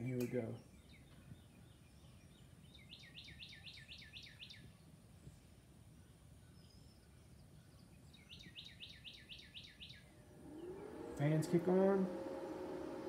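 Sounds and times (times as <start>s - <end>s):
bird singing down-slurred notes: 0.0s - 11.3s.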